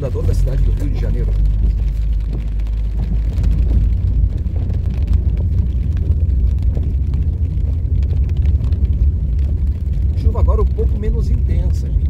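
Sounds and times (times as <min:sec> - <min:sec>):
rain ticking on car: 0:00.0 - 0:12.0
tyre rumble on cobblestones: 0:00.0 - 0:12.0.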